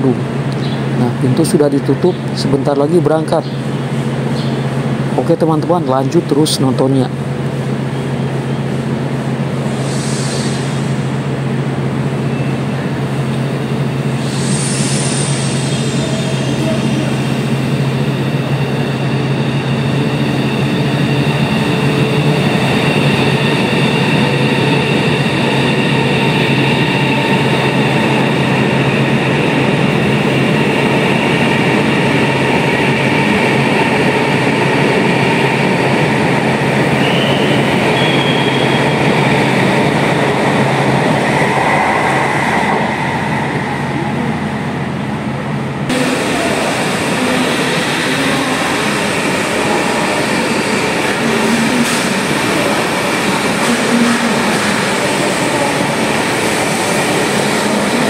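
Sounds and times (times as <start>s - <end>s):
electric train running past: 0.0s - 58.0s
steady whine tones: 0.0s - 58.0s.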